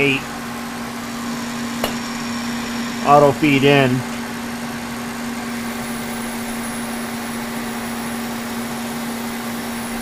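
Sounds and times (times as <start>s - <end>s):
milling machine humming: 0.0s - 10.0s.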